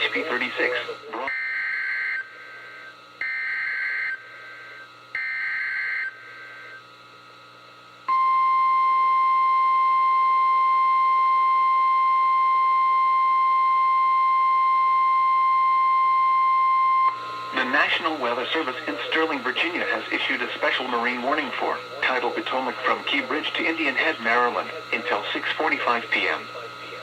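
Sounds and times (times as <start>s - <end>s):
steady warning alarm tone: 0.1s - 26.9s.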